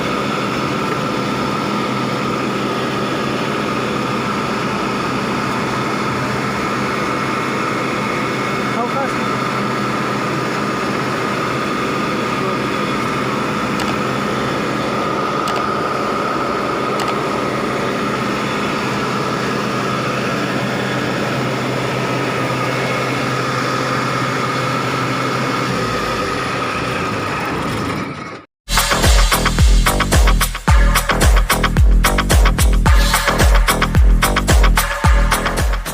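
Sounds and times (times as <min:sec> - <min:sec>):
combine harvester engine running: 0:00.0 - 0:35.9
steady whine: 0:00.0 - 0:35.9.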